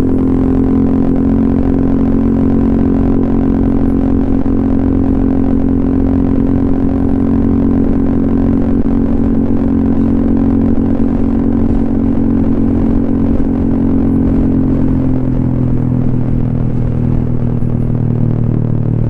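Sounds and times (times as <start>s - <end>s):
scooter engine exhaust note: 0.0s - 19.0s.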